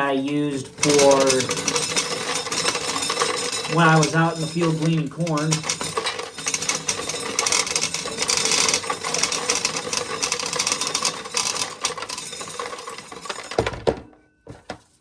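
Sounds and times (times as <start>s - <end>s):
corn sheller rattling: 0.0s - 15.0s.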